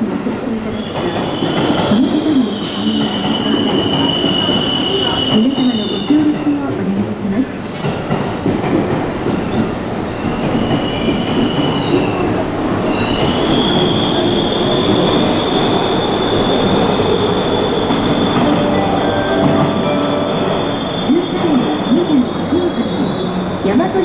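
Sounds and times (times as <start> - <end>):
train rumbling: 0.0 - 24.0
train wheels squealing: 0.7 - 6.6, 9.0 - 24.0.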